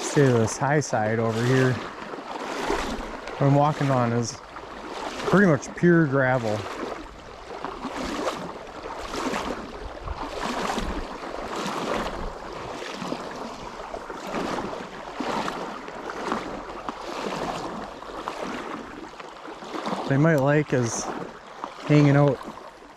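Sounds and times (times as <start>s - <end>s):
stream flowing: 0.0s - 22.9s
water sloshing against legs: 0.2s - 22.9s.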